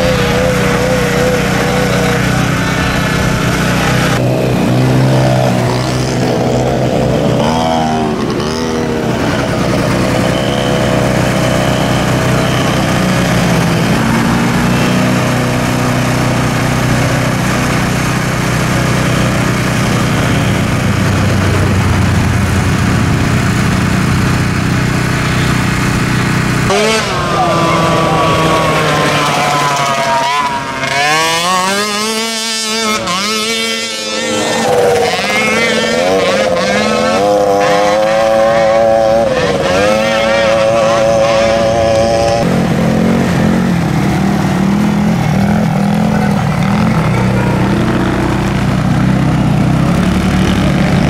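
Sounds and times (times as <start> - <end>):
mini atv engines racing: 0.0 - 51.0.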